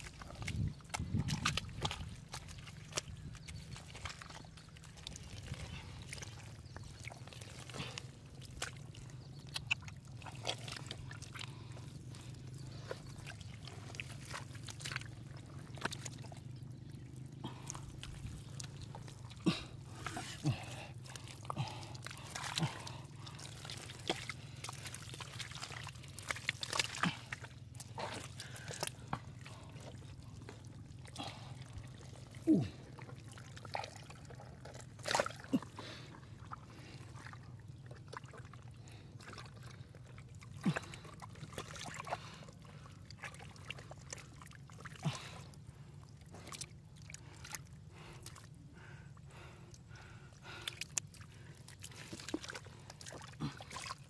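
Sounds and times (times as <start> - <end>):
low steady hum: 0.0 - 54.0
muddy water splashing: 0.0 - 54.0.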